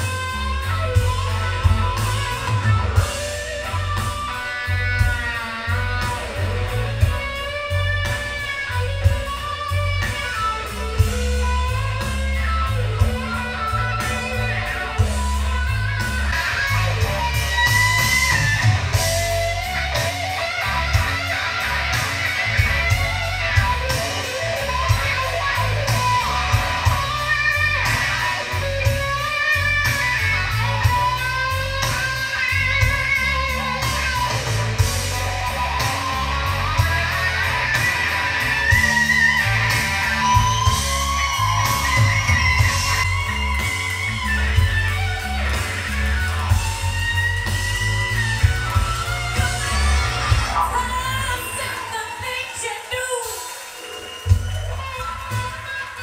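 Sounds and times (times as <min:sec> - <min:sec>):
heavy bass line: 0:00.0 - 0:51.6
electric guitar with bent notes: 0:00.0 - 0:56.0.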